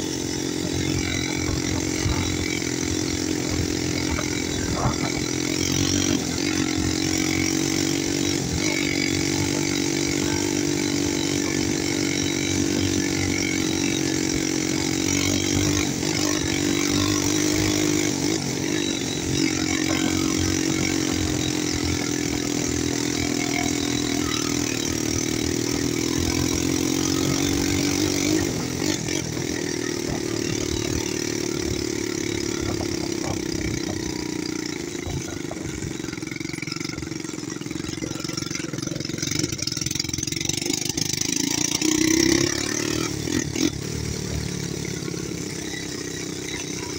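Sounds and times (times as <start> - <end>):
atv engine buzzing: 0.0 - 46.9.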